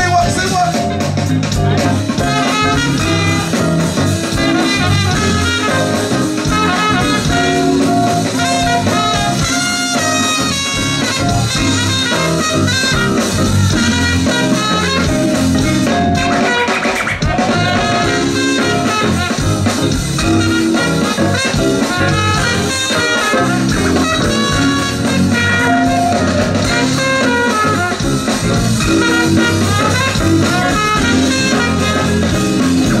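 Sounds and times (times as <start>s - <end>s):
live band music: 0.0s - 33.0s
trumpet: 1.8s - 33.0s.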